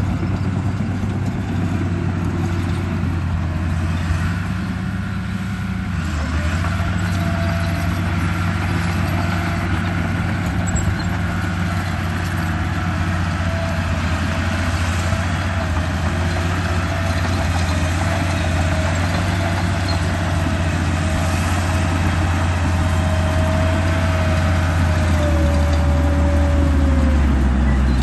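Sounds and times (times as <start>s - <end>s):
loud engine drone: 0.0s - 28.0s.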